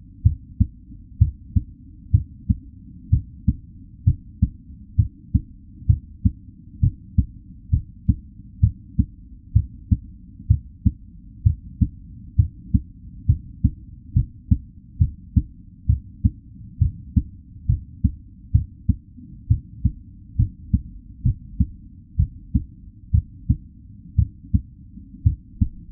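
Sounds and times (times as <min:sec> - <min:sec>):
muffled heartbeat: 0:00.0 - 0:25.9.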